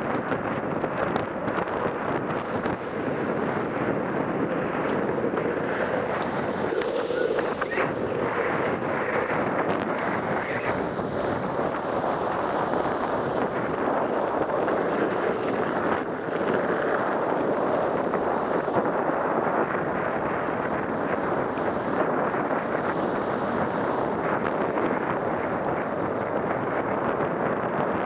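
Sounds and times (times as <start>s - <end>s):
wheels rolling on wet asphalt: 0.0s - 28.0s
wind rushing over microphone: 0.0s - 28.0s.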